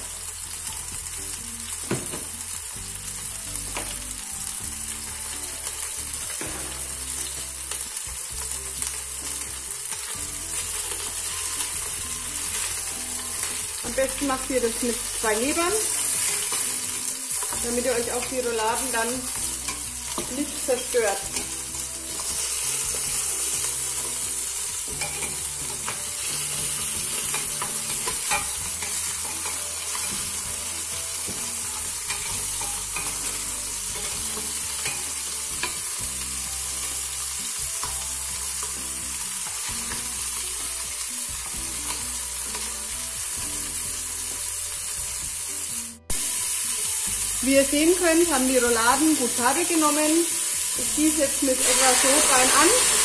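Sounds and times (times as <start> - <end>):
meat sizzling in hot oil: 0.0 - 53.0.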